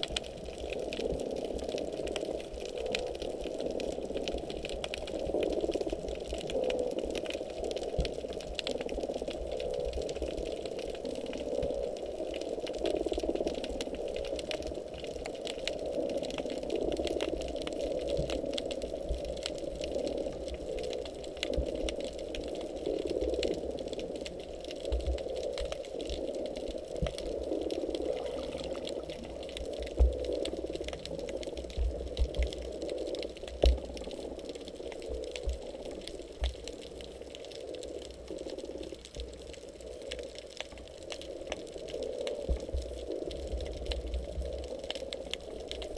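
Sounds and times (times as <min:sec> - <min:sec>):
muffled underwater wash: 0:00.0 - 0:45.9.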